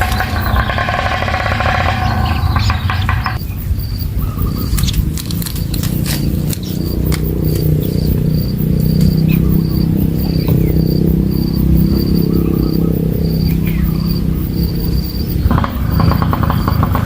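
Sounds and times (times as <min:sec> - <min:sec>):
steady low rumble: 0:00.0 - 0:15.8
cricket chirping: 0:00.0 - 0:17.0.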